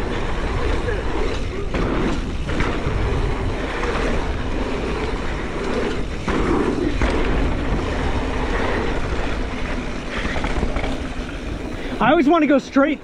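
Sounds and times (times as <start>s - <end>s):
bike tyres rumbling on dirt: 0.0s - 13.0s
wind rushing over microphone: 0.0s - 13.0s.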